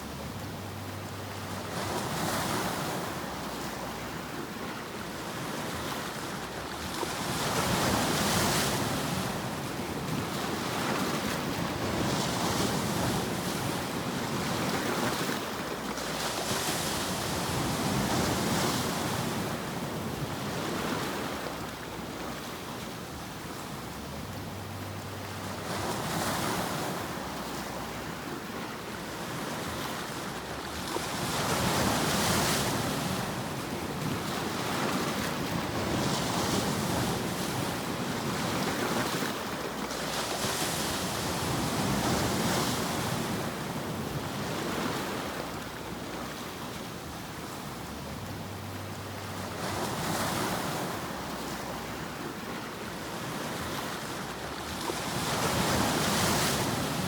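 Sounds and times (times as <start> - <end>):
ocean surf: 0.0 - 57.0.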